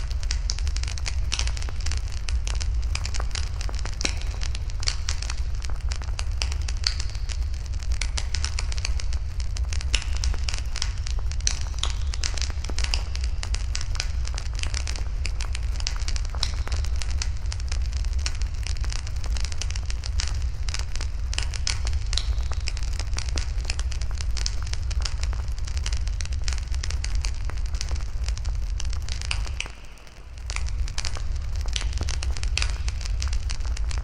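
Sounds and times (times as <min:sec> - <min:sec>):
low fire rumble: 0:00.0 - 0:34.0
wood fire crackling and popping: 0:00.0 - 0:34.0.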